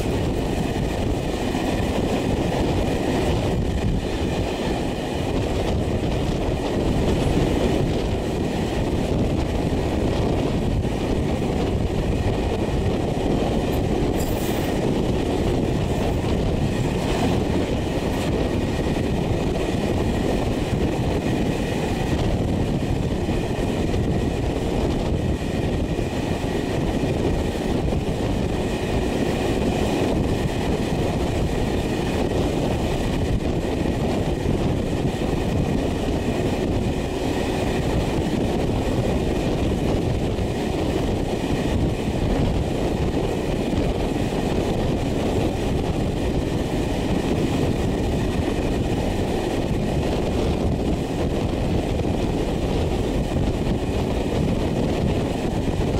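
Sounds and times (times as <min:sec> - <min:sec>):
rushing air: 0:00.0 - 0:55.9
train wheels rumbling on rail: 0:00.0 - 0:55.9.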